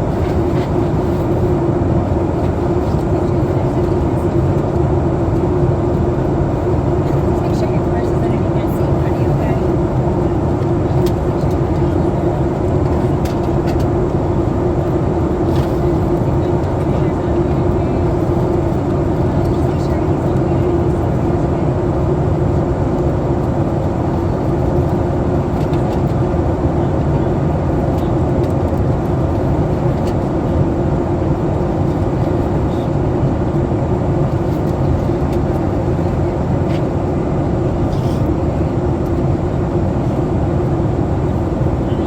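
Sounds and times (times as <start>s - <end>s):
airplane cabin roar: 0.0s - 42.0s
steady low hum: 0.0s - 42.0s.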